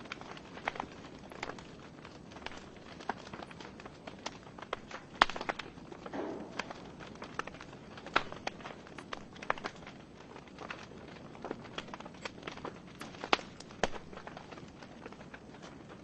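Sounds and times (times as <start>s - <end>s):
burning wood popping: 0.0s - 16.0s
log fire crackling: 0.0s - 16.0s.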